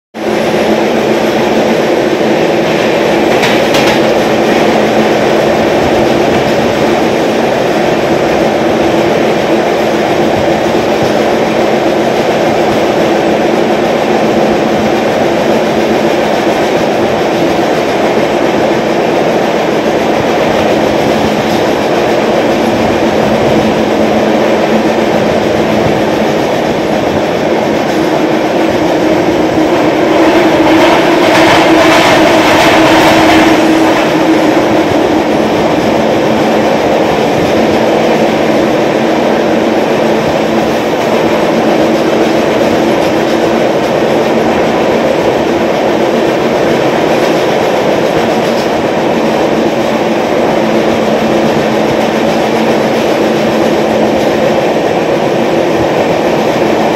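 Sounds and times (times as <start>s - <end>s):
train wheels rumbling on rails: 0.2s - 56.9s.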